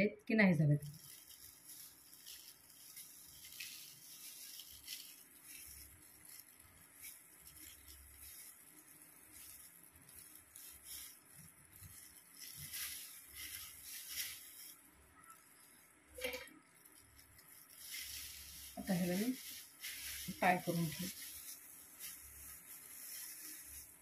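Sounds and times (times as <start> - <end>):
comb swishing through wet hair: 0.9 - 14.8, 17.2 - 24.0.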